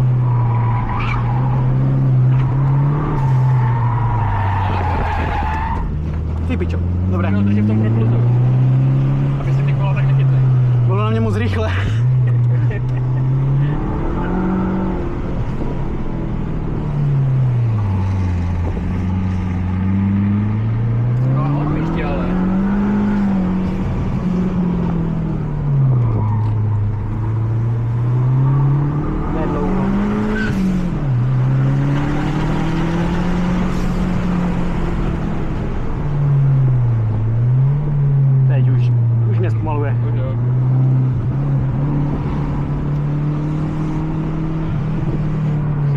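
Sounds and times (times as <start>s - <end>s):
car engine revving: 0.0s - 45.9s
road and wind noise: 0.0s - 45.9s.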